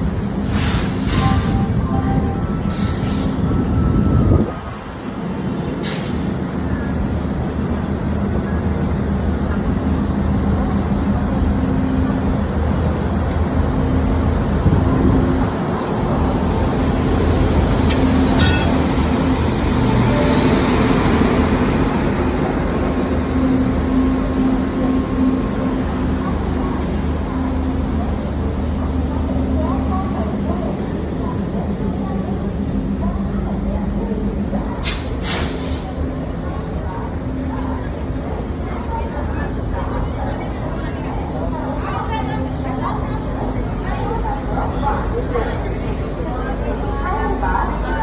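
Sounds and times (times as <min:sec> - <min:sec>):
electric locomotive humming: 0:00.0 - 0:48.0.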